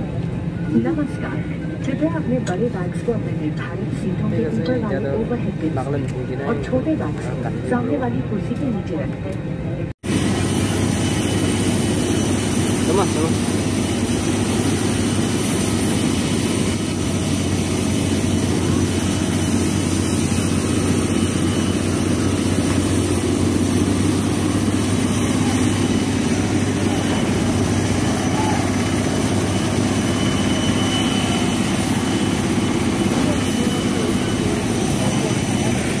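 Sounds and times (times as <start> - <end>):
jet turbine humming and whining: 0.0 - 36.0.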